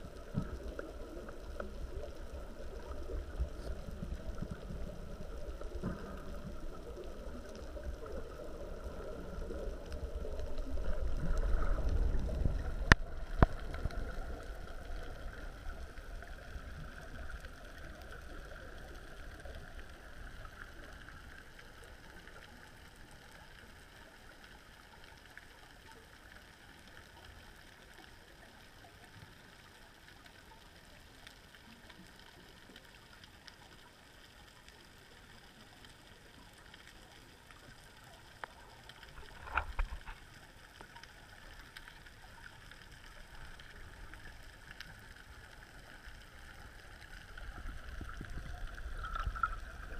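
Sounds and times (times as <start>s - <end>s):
muffled water rushing underwater: 0.0s - 49.9s.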